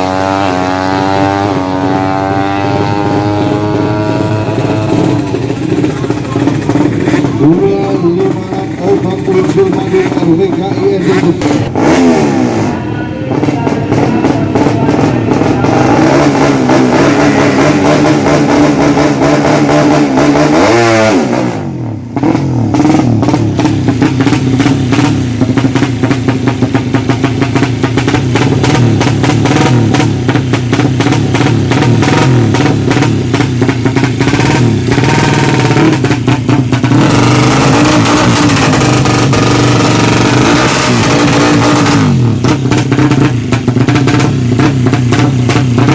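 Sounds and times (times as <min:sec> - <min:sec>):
motorcycle engine revving hard: 0:00.0 - 0:45.9.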